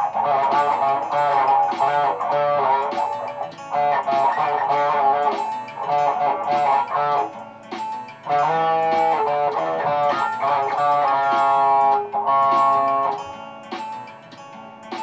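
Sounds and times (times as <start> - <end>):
electric guitar plucked notes: 0.0 - 15.0.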